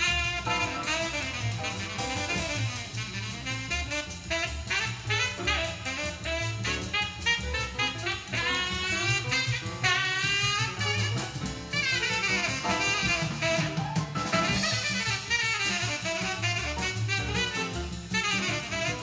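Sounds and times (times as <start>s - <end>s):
drum kit: 0.0s - 19.0s
saxophone playing quick runs: 0.0s - 19.0s
walking bass: 0.0s - 19.0s.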